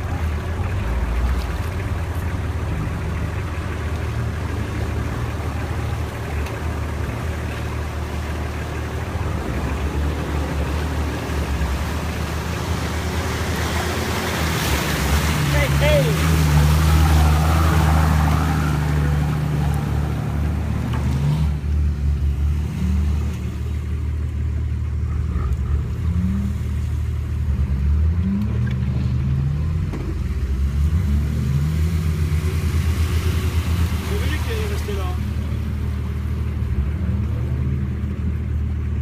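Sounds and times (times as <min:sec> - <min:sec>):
diesel engine revving: 0:00.0 - 0:39.0
water rushing and splashing: 0:00.0 - 0:39.0.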